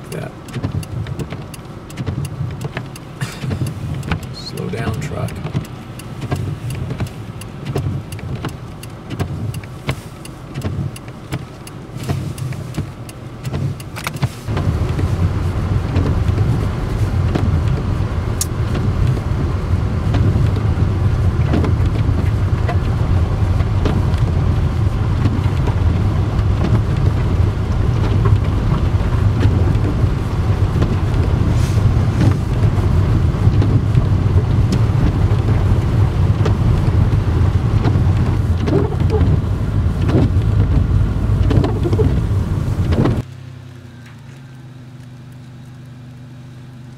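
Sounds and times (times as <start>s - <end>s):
car engine rumble: 0.0s - 46.9s
road noise: 0.0s - 46.9s.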